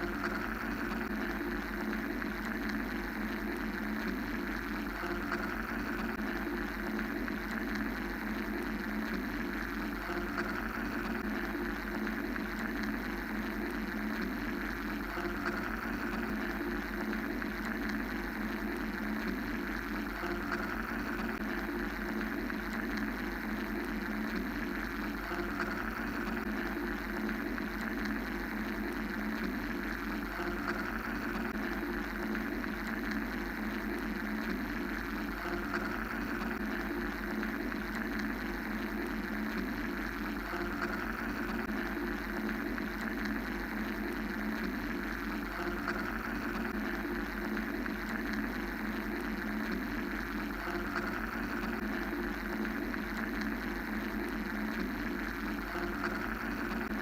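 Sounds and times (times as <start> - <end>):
mechanical drone rumble and hum: 0.0 - 57.0.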